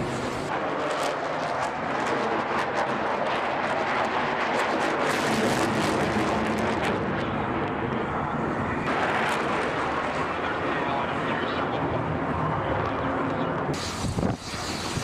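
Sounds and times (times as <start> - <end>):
jet flying overhead: 0.0 - 15.0.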